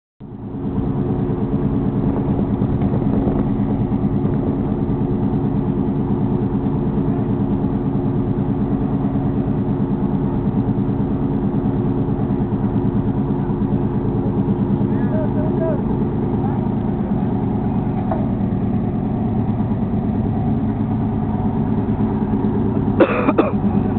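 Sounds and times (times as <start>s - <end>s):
boat engines droning: 0.2s - 23.9s.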